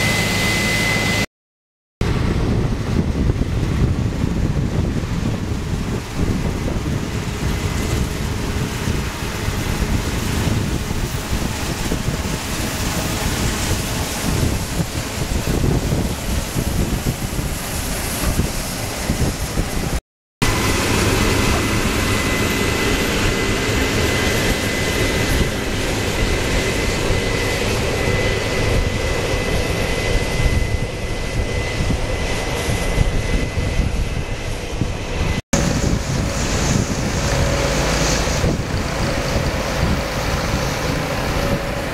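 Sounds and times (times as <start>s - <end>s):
combine harvester drone: 0.0s - 1.3s, 2.0s - 41.9s
steady high whine: 0.0s - 1.3s, 2.0s - 41.9s.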